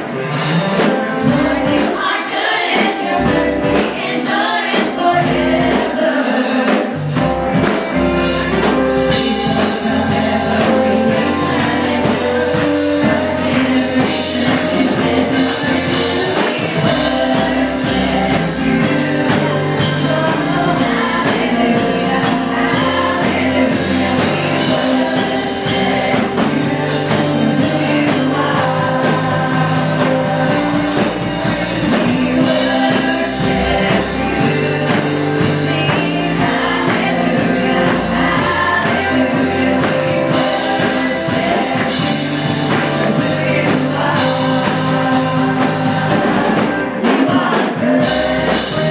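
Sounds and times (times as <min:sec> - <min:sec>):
full band with bass and beat: 0:00.0 - 0:48.9
worship singing: 0:00.0 - 0:48.9.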